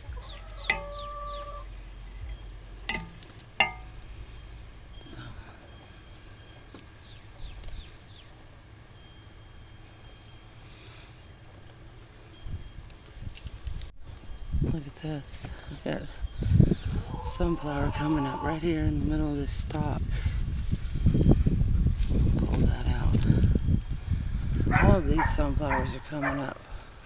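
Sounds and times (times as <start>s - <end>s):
sharp ringing clinks: 0.0s - 13.6s, 15.4s - 26.6s
small birds chirping: 0.0s - 27.0s.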